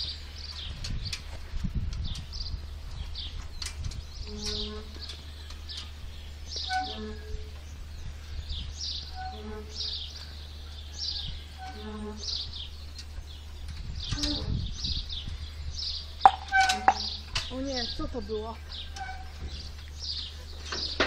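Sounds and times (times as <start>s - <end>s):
birds chirping: 0.0s - 21.0s
metal swing creaking: 0.0s - 21.0s.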